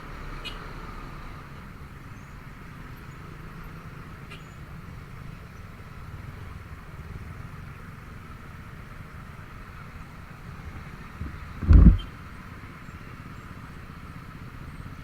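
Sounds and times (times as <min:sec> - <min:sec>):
road and wind rumble: 0:00.0 - 0:15.0.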